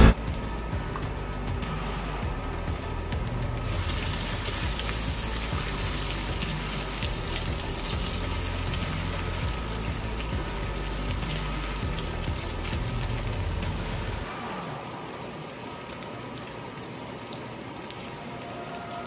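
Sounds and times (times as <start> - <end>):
meat sizzling in oil: 0.2 - 19.0.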